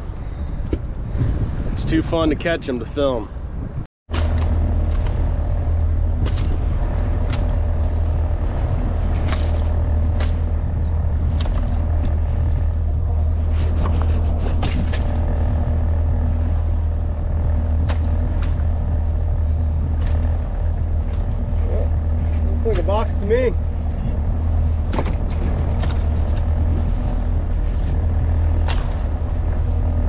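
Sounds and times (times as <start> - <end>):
boat engine idling: 4.1 - 30.0.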